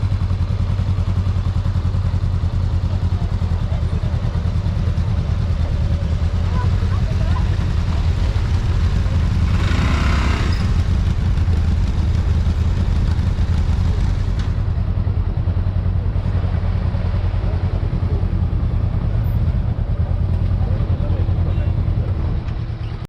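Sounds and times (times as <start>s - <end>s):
motorcycle engine drone: 0.0s - 23.0s.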